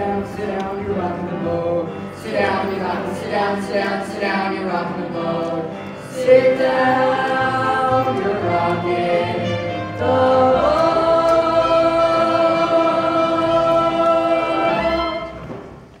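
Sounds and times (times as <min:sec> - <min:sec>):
cast singing in chorus: 0:00.0 - 0:15.4.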